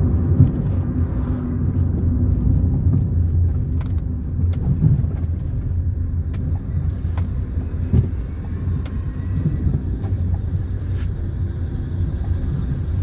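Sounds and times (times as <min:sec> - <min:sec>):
vehicle clicks and knocks: 0:00.0 - 0:01.0, 0:01.6 - 0:13.0
car engine and tyres rumbling: 0:00.0 - 0:13.0.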